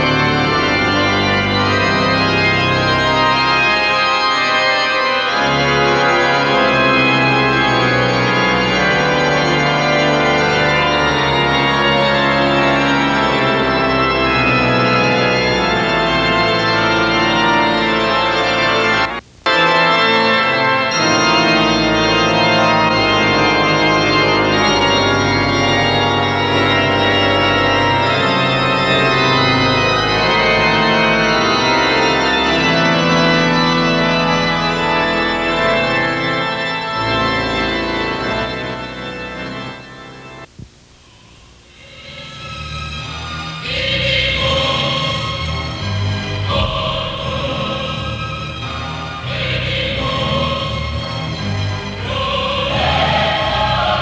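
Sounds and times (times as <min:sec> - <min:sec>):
organ playing sustained chords: 0:00.0 - 0:54.0.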